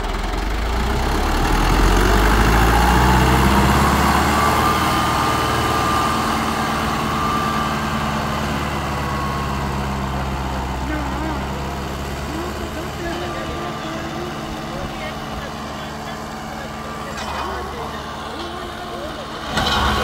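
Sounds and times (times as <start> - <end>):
tractor diesel engine: 0.0 - 20.0.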